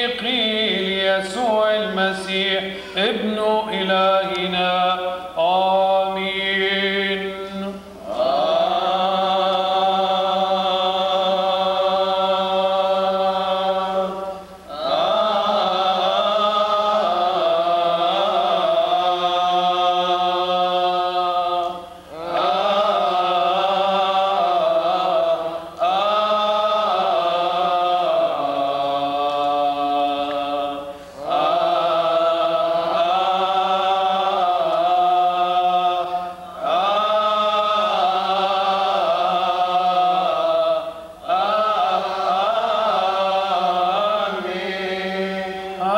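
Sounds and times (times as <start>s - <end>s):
liturgical chant: 0.0s - 45.9s.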